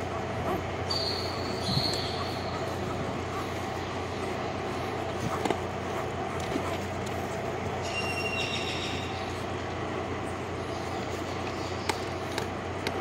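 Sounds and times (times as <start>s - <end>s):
background rumble and hiss: 0.0s - 13.0s.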